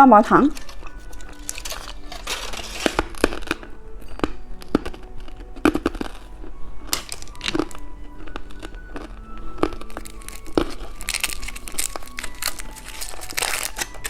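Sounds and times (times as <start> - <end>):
faint background music: 0.0 - 14.0
plastic packaging crinkling: 0.5 - 14.0.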